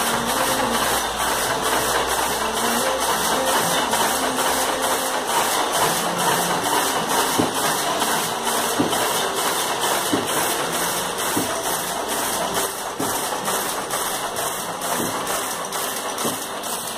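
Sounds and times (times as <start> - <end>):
power loom clattering: 0.0 - 16.9.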